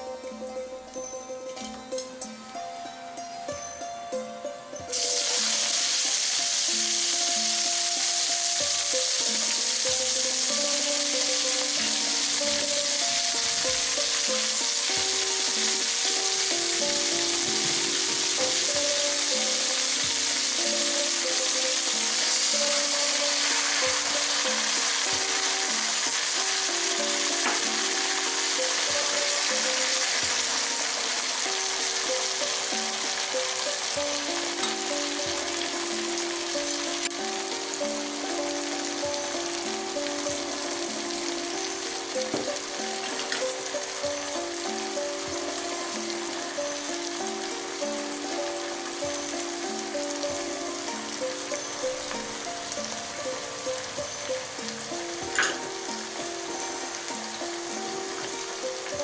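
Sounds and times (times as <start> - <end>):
vegetables sizzling in wok: 4.8 - 59.0.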